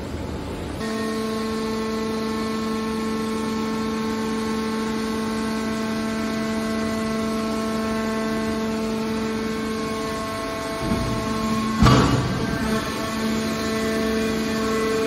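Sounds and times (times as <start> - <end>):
hydraulic power unit hum-whine: 0.0 - 15.0.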